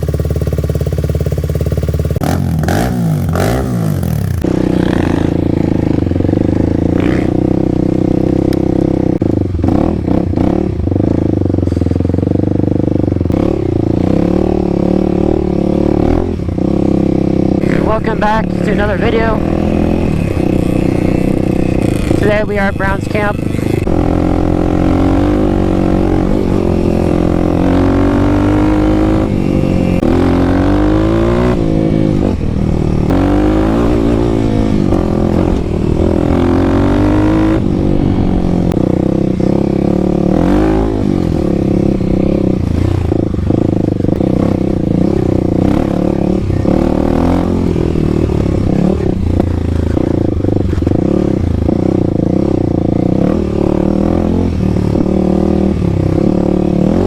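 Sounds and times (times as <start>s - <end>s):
motorcycle engine while riding: 0.0s - 57.0s.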